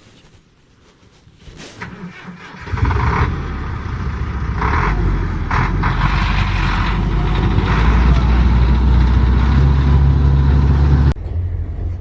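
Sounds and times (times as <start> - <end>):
diesel truck engine running: 2.4 - 12.0.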